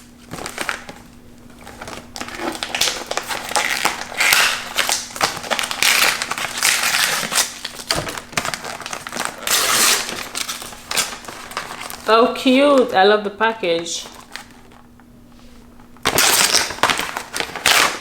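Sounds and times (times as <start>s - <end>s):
paper gift wrap crinkling: 0.2s - 14.9s, 15.5s - 18.0s.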